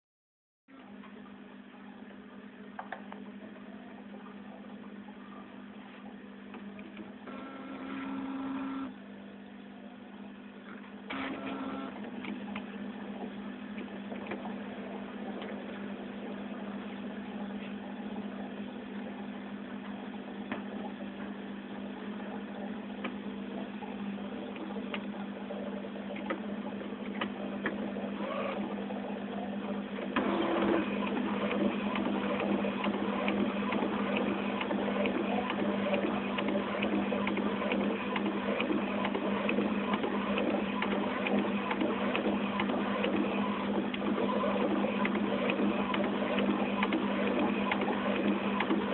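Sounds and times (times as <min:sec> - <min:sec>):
inkjet printer motor hum: 0:03.4 - 0:48.9.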